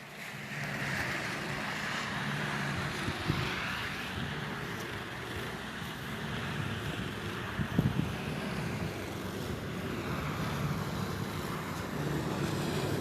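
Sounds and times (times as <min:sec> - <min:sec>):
distant road traffic rumble: 0:00.0 - 0:13.0
wind buffeting microphone: 0:02.1 - 0:13.0.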